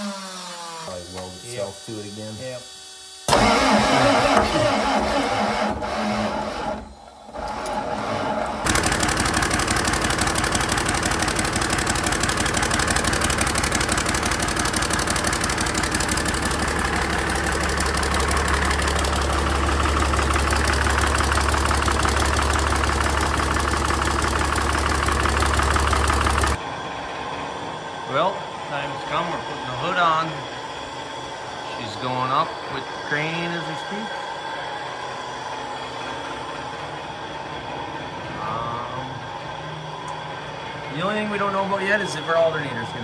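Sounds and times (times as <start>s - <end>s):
diesel engine cranking and firing: 3.2s - 43.0s.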